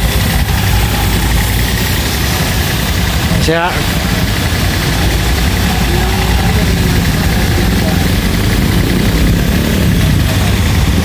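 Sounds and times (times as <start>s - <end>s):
pressure washer pump humming: 0.0s - 11.0s
water jet spraying: 0.0s - 11.0s.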